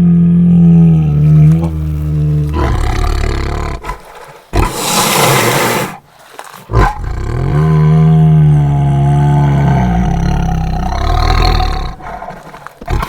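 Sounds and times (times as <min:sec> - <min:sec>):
tiger growl: 0:00.0 - 0:13.0
tiger roaring: 0:00.0 - 0:13.0.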